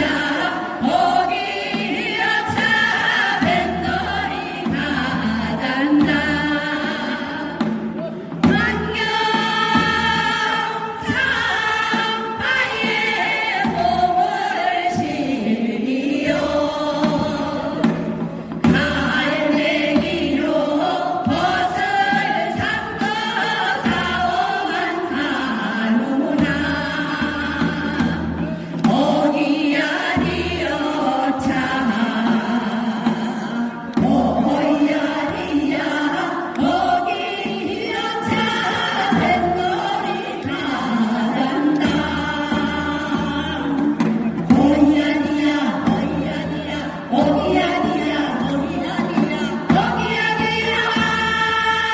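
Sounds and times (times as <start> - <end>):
choir singing: 0.0 - 51.9.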